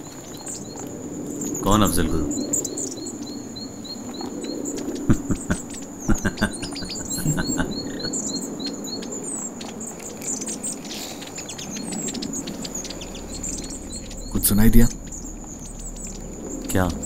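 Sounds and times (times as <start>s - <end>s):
high insect trill: 0.0s - 17.0s
small bird chirping: 0.0s - 17.0s.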